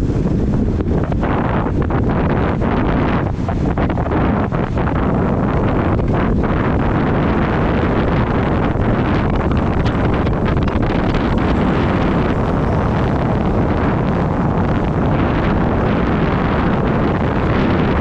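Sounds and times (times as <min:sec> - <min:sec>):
dirt bike engine running: 0:00.0 - 0:18.0
wind buffeting microphone: 0:00.0 - 0:18.0.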